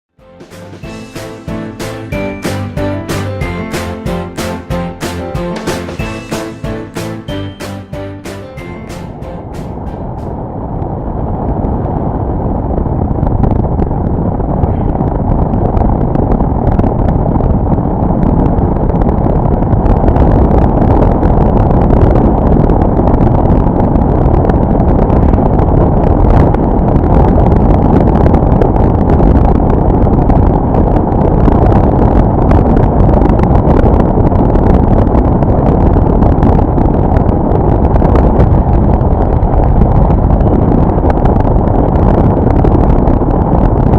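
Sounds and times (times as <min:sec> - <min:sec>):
road and wind rumble: 0:00.2 - 0:43.9.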